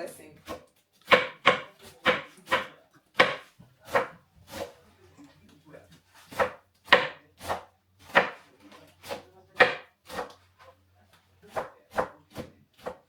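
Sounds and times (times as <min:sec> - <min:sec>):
knife chopping on cutting board: 0:00.4 - 0:04.8, 0:06.2 - 0:10.7, 0:11.5 - 0:13.0.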